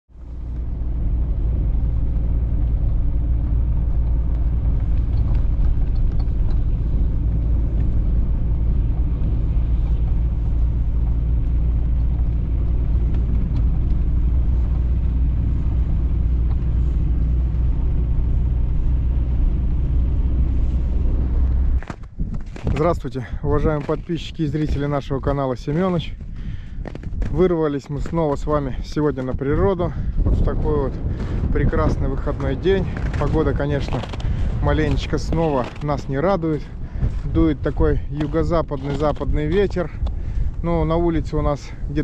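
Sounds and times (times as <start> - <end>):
car engine and tyres rumbling: 0.1 - 42.0.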